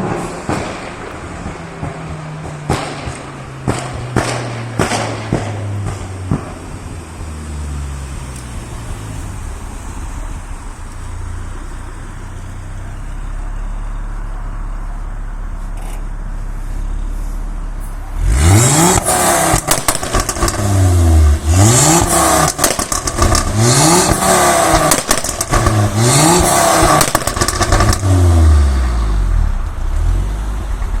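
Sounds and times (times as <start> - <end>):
car engine idling and revving: 0.0 - 31.0
exhaust crackling and popping: 0.0 - 31.0.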